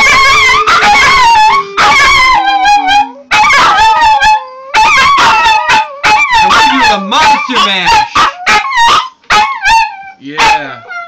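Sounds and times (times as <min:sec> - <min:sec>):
small dog howling: 0:00.0 - 0:11.0.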